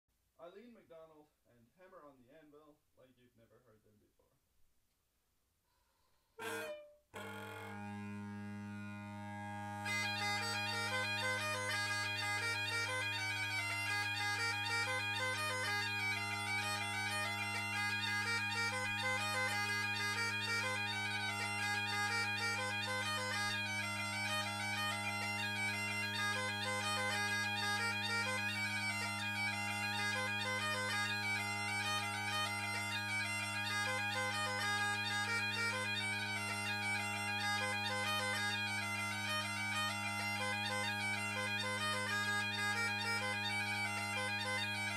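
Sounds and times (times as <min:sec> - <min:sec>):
bagpipes playing a lively tune: 0:06.4 - 0:44.9.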